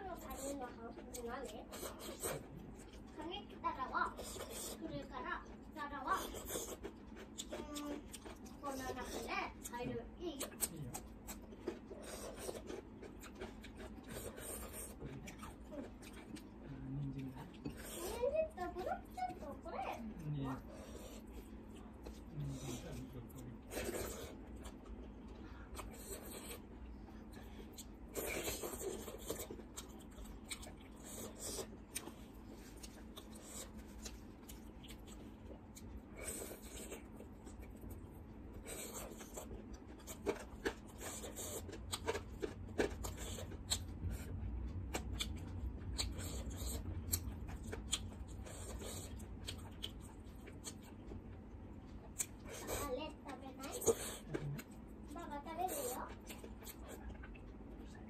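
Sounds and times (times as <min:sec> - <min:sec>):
chewing and mouth sounds: 0:00.1 - 0:58.0.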